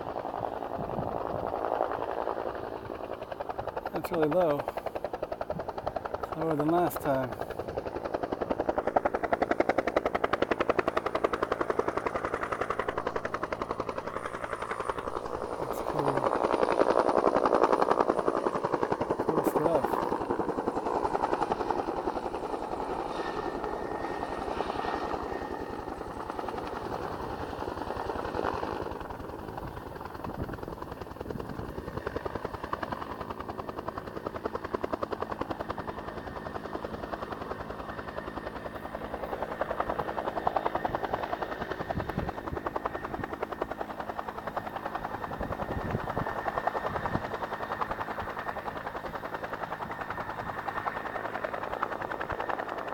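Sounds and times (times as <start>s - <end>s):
helicopter rotor chop: 0.0s - 52.9s.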